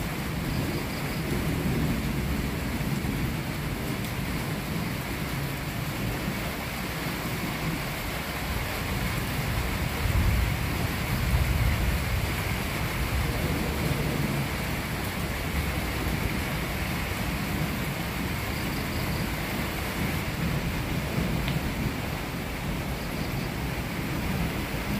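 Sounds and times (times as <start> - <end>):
heavy rain: 0.0 - 24.9
thunder rumbling: 0.0 - 24.9.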